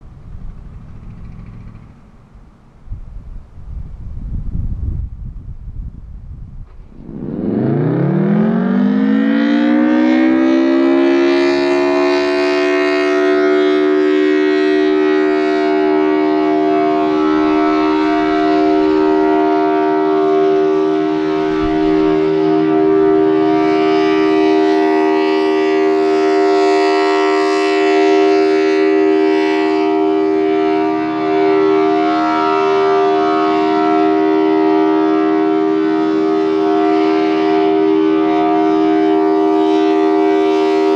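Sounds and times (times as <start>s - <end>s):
tornado siren winding up: 6.9s - 40.9s.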